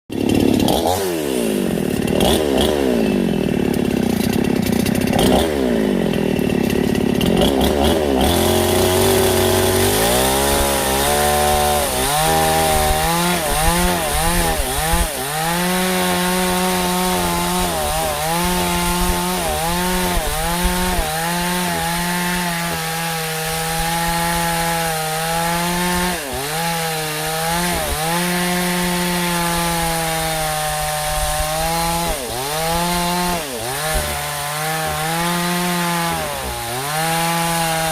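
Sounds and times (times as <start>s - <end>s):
chainsaw cutting wood: 0.1s - 37.9s.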